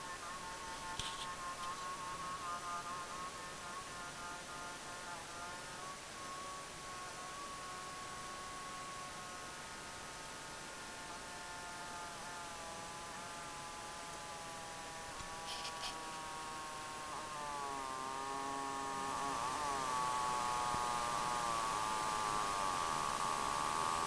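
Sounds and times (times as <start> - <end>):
power supply whining: 0.0 - 24.0.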